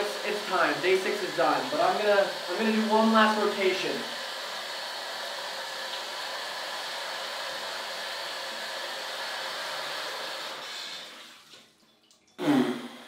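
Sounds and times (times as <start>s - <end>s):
shower spraying water: 0.0s - 11.8s.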